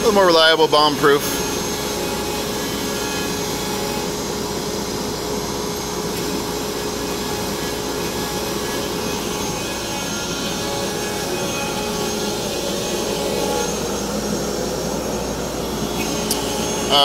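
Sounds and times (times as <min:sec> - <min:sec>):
router and vacuum rushing: 0:00.0 - 0:17.0.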